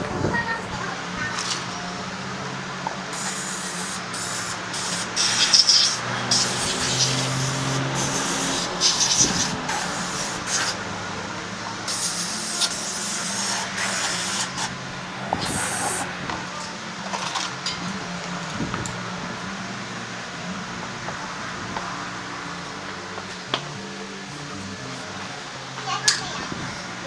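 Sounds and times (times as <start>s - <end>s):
compressed air hissing: 1.0s - 23.2s.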